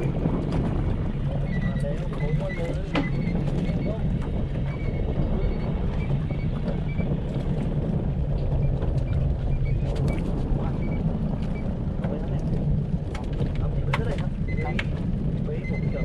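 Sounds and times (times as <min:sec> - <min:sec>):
boat engine humming: 0:00.0 - 0:16.0
wind: 0:00.0 - 0:16.0.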